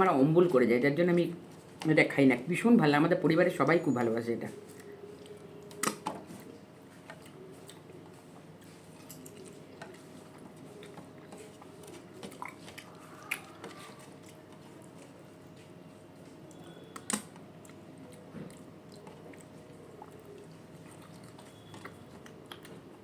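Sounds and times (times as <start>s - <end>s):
low steady hum: 0.0s - 23.0s
person chewing: 4.6s - 23.0s.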